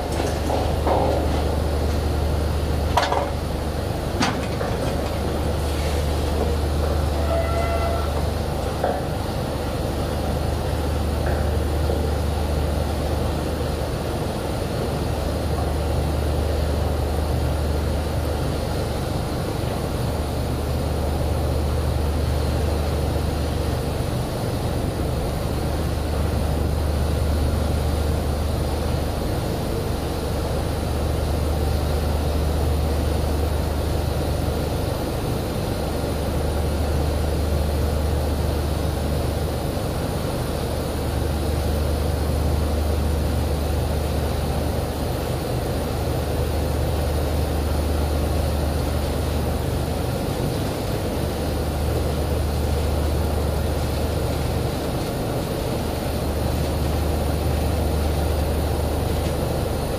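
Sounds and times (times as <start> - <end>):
drilling rig engines droning: 0.0 - 59.9.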